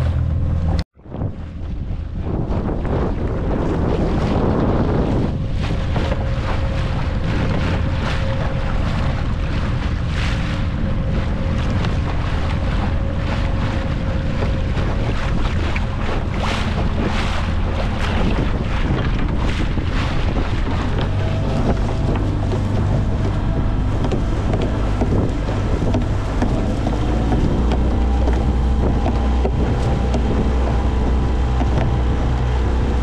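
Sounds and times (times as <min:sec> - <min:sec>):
outboard motor running: 0:00.0 - 0:33.0
water slapping hull: 0:00.0 - 0:33.0
wind buffeting microphone: 0:00.0 - 0:33.0.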